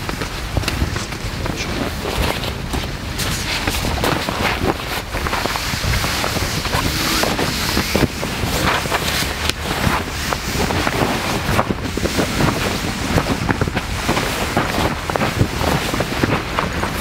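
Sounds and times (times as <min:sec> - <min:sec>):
windy hiss: 0:00.0 - 0:17.0.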